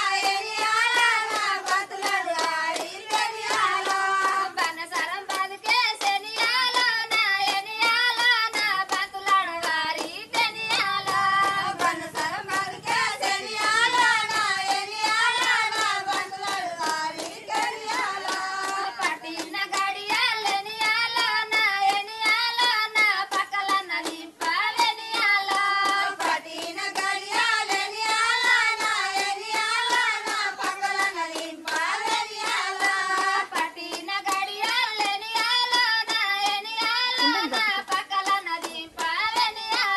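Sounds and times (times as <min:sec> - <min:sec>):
rhythmic hand claps: 0:00.0 - 0:39.9
women singing together: 0:00.0 - 0:39.9.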